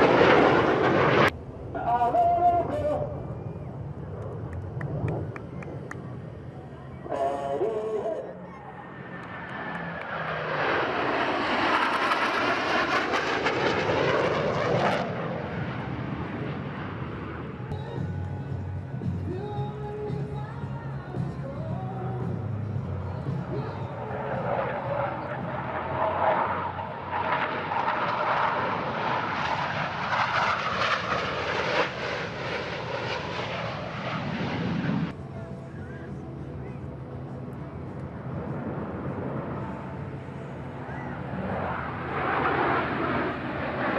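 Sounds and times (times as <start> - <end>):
jet flyby roar: 0.0 - 43.9.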